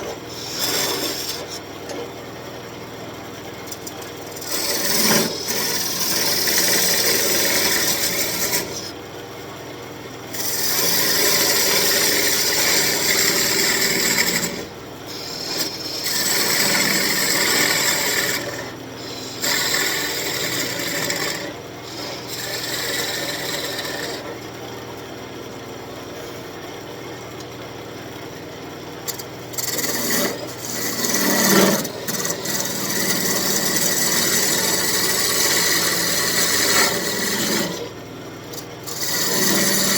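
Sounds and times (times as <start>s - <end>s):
turning tool cutting wood on lathe: 0.0s - 2.0s, 3.6s - 9.0s, 10.3s - 24.4s, 29.0s - 39.9s
lathe motor hum: 0.0s - 2.1s, 3.7s - 9.0s, 10.3s - 24.4s, 29.0s - 39.9s.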